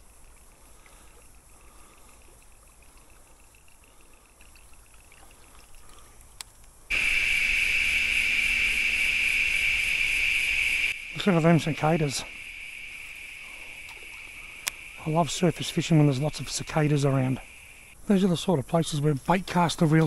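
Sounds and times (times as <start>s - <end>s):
cicadas buzzing: 0.0s - 4.4s, 6.8s - 20.0s.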